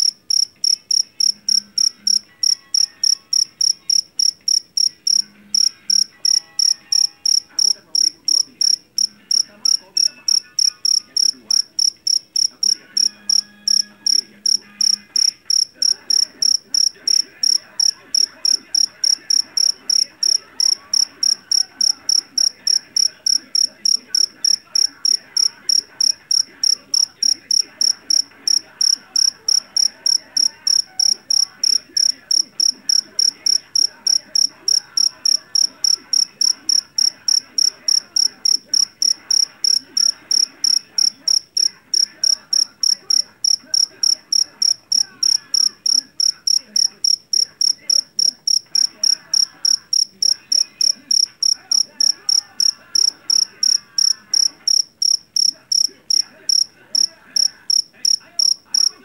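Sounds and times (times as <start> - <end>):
cricket chirping: 0.0 - 59.0.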